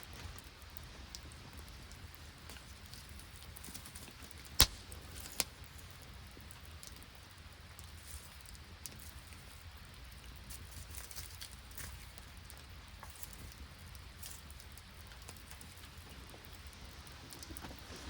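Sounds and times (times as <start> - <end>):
rain drops ticking: 0.0 - 18.0.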